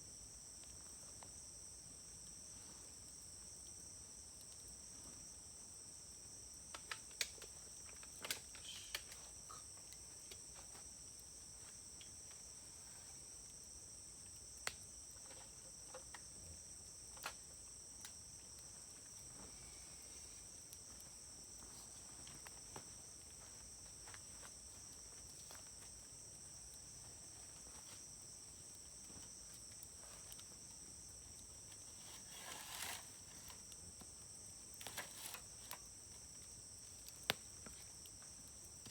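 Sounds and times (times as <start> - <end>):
wood fire crackling: 3.0 - 15.3, 16.0 - 38.9.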